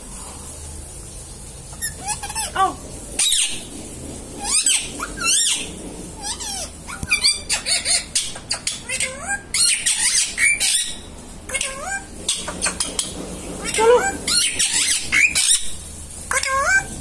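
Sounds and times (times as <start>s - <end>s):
parakeet chirping and squawking: 1.6s - 17.0s.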